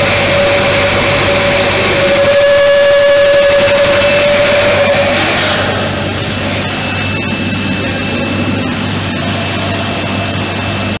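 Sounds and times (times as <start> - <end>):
bottle washing machine hum: 0.0 - 11.0
faint high whine: 0.0 - 11.0.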